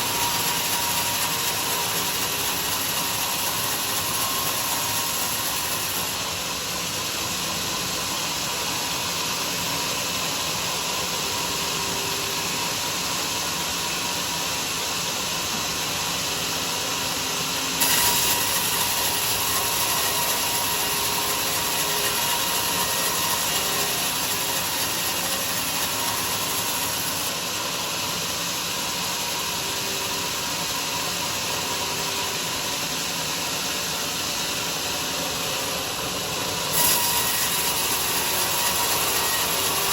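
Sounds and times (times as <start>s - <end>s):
sawmill running: 0.0s - 39.9s.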